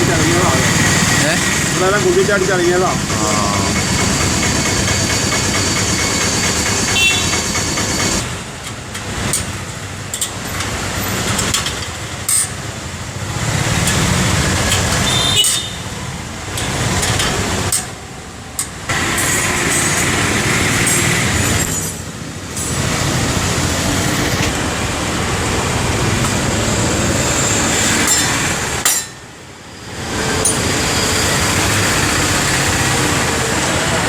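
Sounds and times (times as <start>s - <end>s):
vehicle engine noise: 0.0s - 34.0s.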